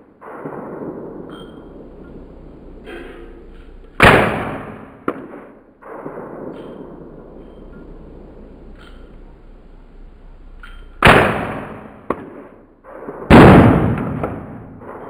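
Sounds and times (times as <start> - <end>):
rifle shot: 0.0 - 9.3, 11.0 - 15.0.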